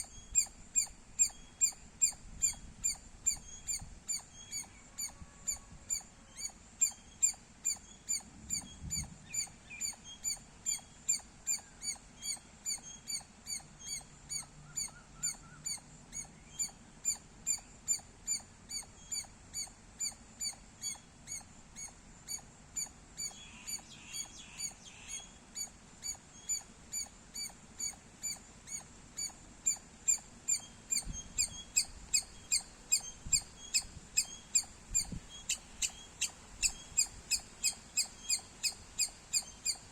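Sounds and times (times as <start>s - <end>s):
squirrel chirping: 0.0s - 39.9s.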